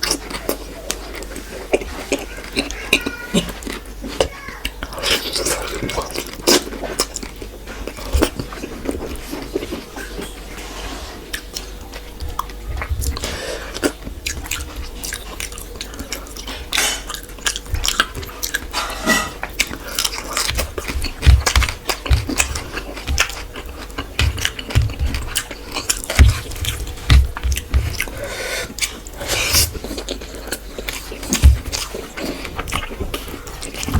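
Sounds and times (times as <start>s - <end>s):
person chewing food: 0.0s - 33.9s.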